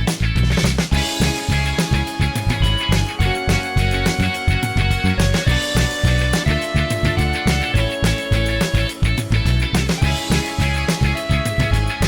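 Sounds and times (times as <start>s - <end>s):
bass and drums beat: 0.0s - 12.0s
plucked guitar notes: 0.9s - 12.0s.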